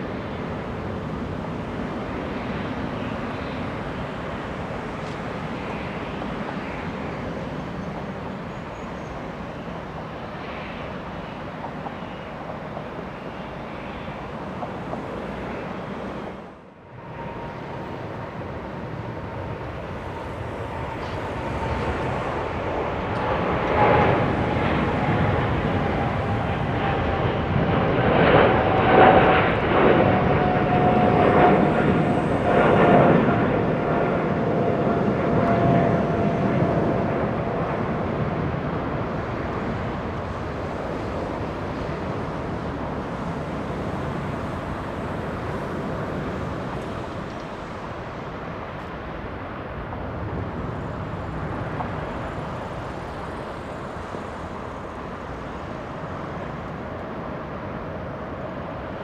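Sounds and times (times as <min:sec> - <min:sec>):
aircraft approaching with rough rumble: 0:00.0 - 0:59.0
jet engines roaring: 0:00.0 - 0:59.0.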